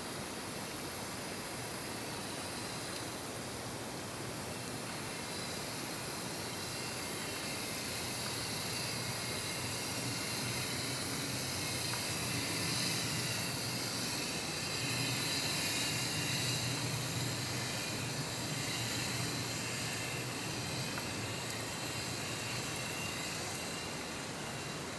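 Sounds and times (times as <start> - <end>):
underwater hiss: 0.0 - 24.9.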